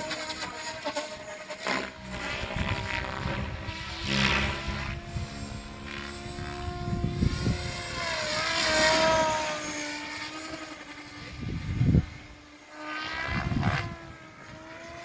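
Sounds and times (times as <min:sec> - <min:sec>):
model aircraft motor whine: 0:00.0 - 0:15.0.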